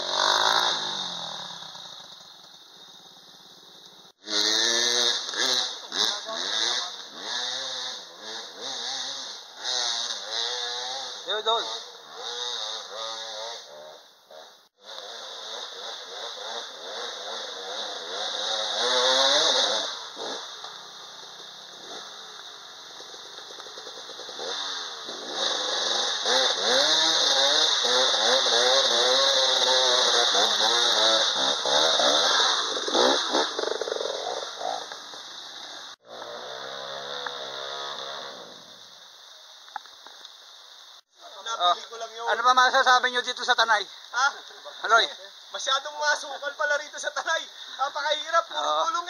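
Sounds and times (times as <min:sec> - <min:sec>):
dirt bike engines revving: 0:00.0 - 0:40.0, 0:40.9 - 0:49.0.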